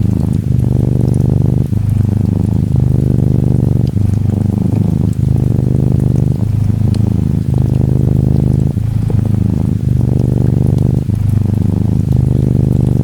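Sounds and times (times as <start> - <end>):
faint rain: 0.0 - 13.0
kitten purring: 0.0 - 13.0.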